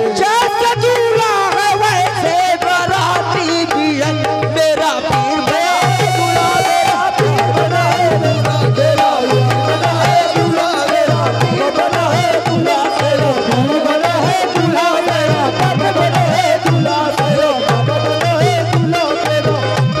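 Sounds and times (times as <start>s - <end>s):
harmoniums playing: 0.0s - 20.0s
voices singing into microphones: 0.0s - 20.0s
hand drum beating a rhythm: 2.2s - 20.0s.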